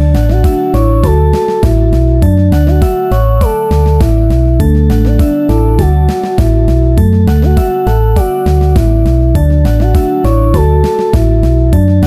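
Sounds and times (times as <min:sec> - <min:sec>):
bass line: 0:00.0 - 0:12.0
sliding keyboard tune: 0:00.0 - 0:12.0.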